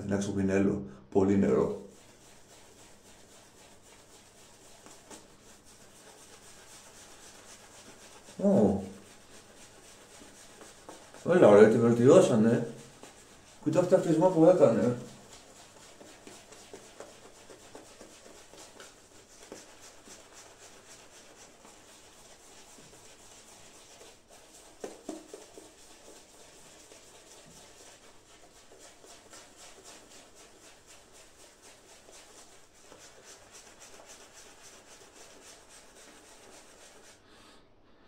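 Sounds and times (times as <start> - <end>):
shaving brush swishing on skin: 1.2 - 37.3.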